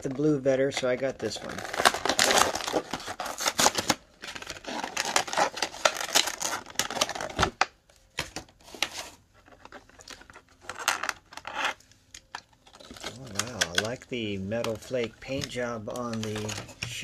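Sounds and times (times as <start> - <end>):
plastic packaging crackling: 0.1 - 17.0.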